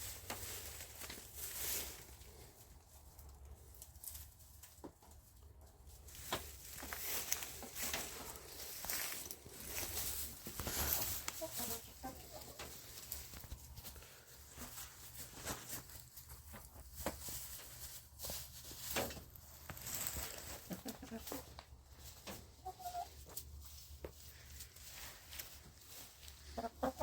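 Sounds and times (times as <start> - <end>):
hens scratching in straw: 0.0 - 27.0
hens clucking: 0.1 - 17.8, 20.3 - 27.0.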